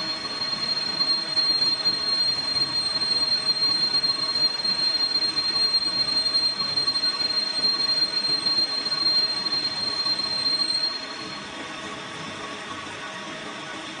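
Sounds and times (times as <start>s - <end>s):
lathe cutting tool squealing: 0.0s - 11.5s
lathe machine running: 0.0s - 11.8s.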